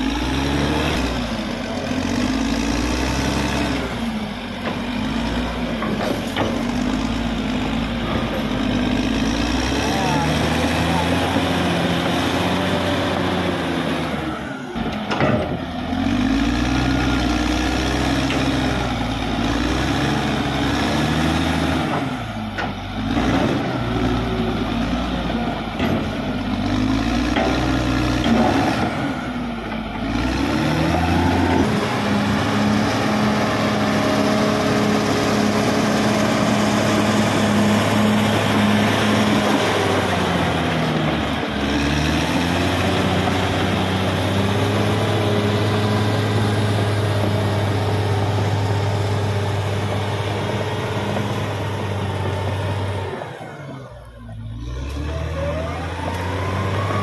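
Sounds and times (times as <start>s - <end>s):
bulldozer diesel engine working: 0.0s - 57.0s.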